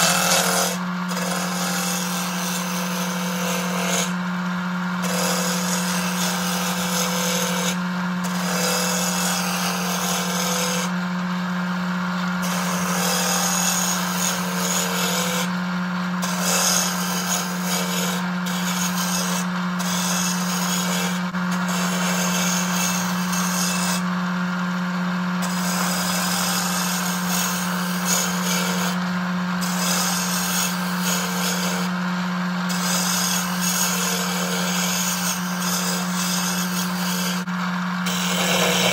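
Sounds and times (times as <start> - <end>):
turning tool shaving wood: 0.0 - 4.2, 4.9 - 11.0, 12.4 - 15.5, 16.2 - 24.0, 25.4 - 32.0, 32.6 - 38.9
wood lathe humming: 0.0 - 11.8, 12.4 - 24.2, 25.4 - 38.9.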